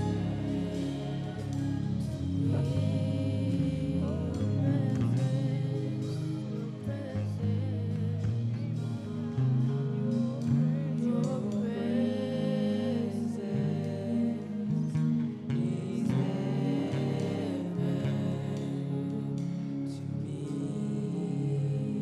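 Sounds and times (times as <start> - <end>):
gospel singing: 0.0 - 22.0
held instrumental chords: 0.0 - 22.0.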